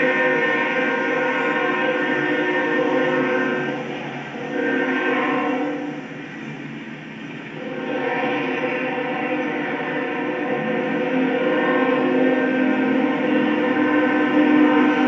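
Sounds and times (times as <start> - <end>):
locomotive air horn: 0.0 - 6.0, 7.6 - 15.0.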